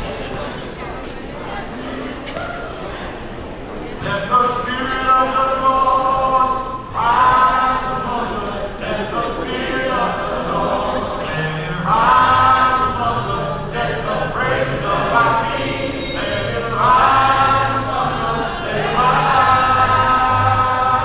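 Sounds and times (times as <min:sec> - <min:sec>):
congregation singing a hymn: 0:03.9 - 0:21.0.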